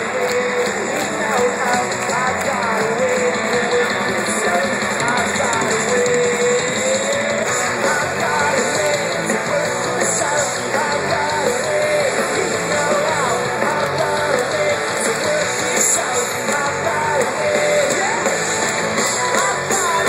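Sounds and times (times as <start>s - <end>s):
drums: 0.0s - 20.0s
electric guitars: 0.0s - 20.0s
person singing: 0.0s - 20.0s.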